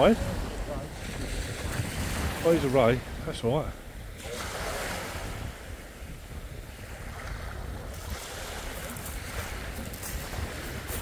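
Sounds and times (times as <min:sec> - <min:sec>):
waves on shingle beach: 0:00.0 - 0:11.0
wind on microphone: 0:00.0 - 0:11.0.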